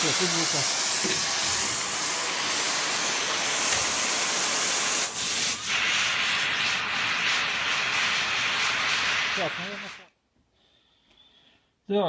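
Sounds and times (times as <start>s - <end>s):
gas torch flame hissing: 0.0s - 10.1s.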